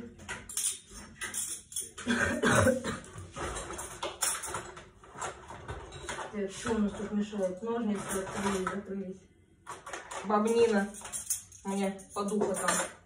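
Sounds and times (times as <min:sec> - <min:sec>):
cutlery and dishes clinking: 0:00.0 - 0:08.8, 0:09.7 - 0:13.0.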